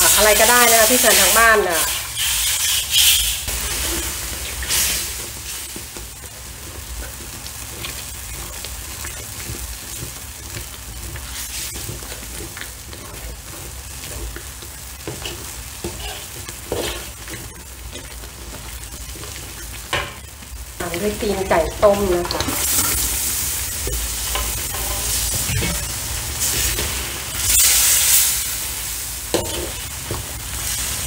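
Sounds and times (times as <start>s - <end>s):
curry paste sizzling in wok: 0.0s - 31.0s.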